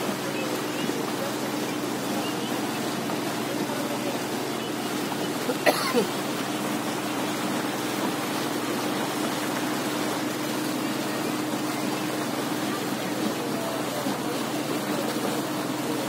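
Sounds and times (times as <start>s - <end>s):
motorboat engine humming: 0.0s - 16.0s.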